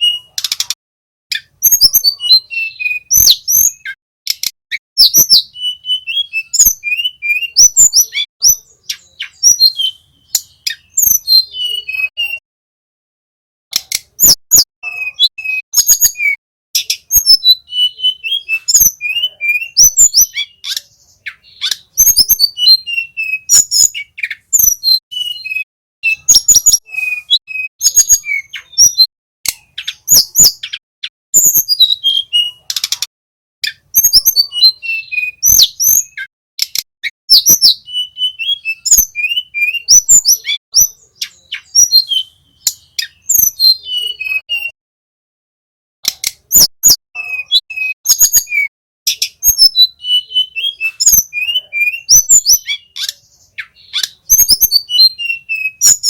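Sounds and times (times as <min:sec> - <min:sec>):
songbird chirping and whistling: 0:00.0 - 0:12.4, 0:13.7 - 0:44.8, 0:46.0 - 0:56.0.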